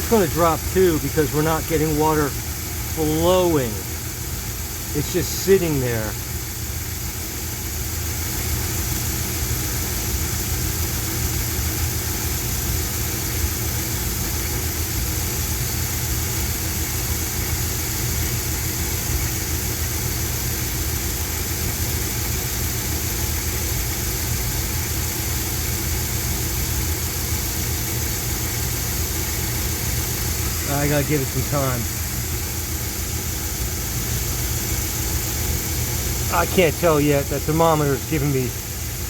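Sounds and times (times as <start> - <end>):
pickup engine idling: 0.0 - 39.0.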